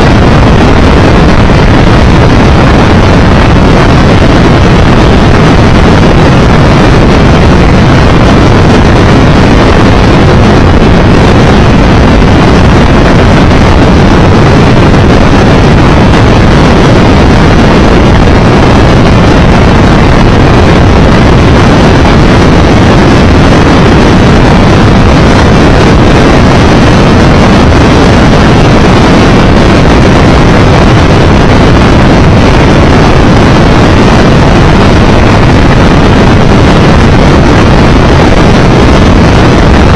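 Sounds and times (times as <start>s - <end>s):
wind roar on microphone: 0.0s - 39.9s.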